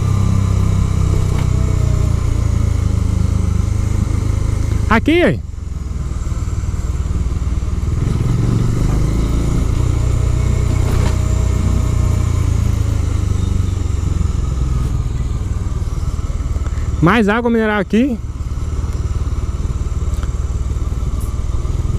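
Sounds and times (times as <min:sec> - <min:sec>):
motorcycle engine droning: 0:00.0 - 0:21.9.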